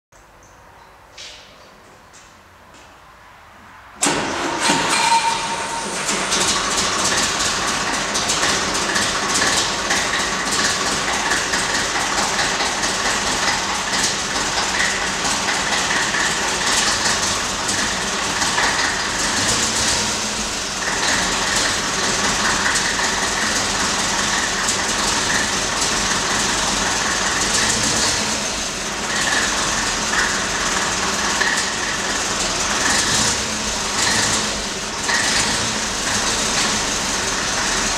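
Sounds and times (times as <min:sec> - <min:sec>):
diesel engine running loudly: 0:04.0 - 0:37.9.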